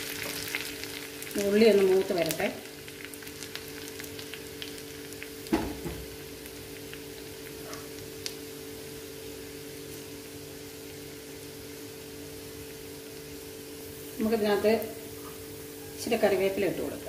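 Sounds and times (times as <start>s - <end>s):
shallots sizzling in hot oil: 0.0s - 17.0s.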